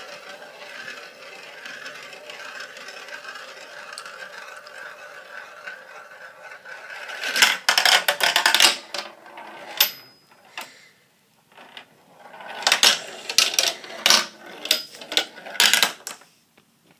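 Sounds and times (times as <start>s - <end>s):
marbles rolling and clacking: 0.0s - 10.7s, 11.6s - 16.2s.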